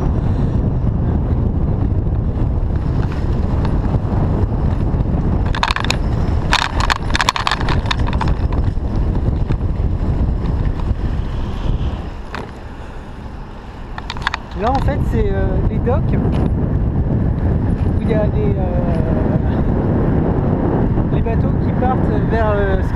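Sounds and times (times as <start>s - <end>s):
bike and basket rattling: 0.0s - 20.0s
tyres on road: 0.0s - 21.7s
bicycle ride rumble: 0.0s - 22.9s
wind on microphone: 0.0s - 22.9s.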